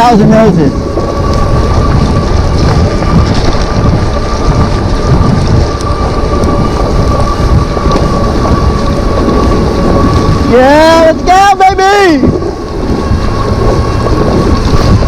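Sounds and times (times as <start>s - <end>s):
rain: 0.0s - 15.0s
steady high whine: 0.0s - 15.0s
tyre noise: 0.0s - 15.0s
wind buffeting microphone: 0.0s - 15.0s.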